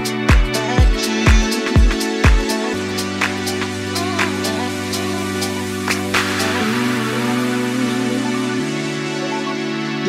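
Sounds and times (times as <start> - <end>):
electronic synth music: 0.0 - 10.0.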